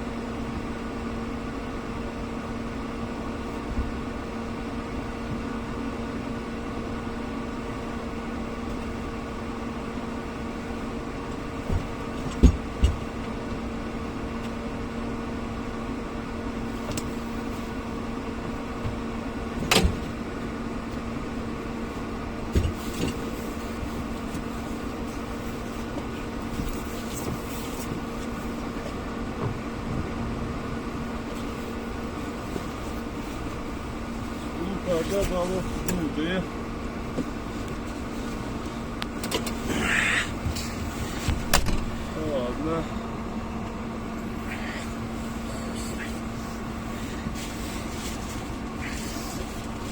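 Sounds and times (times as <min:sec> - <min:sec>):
vehicle engine humming: 0:00.0 - 0:49.9.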